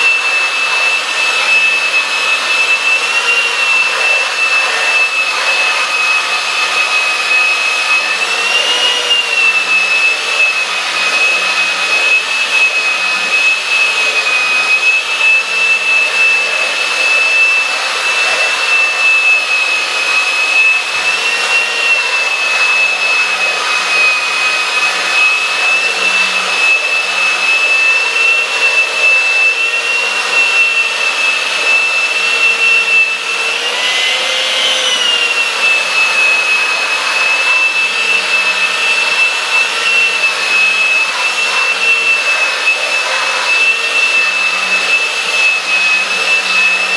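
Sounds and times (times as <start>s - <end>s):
belt sander sanding wood: 0.0s - 46.9s.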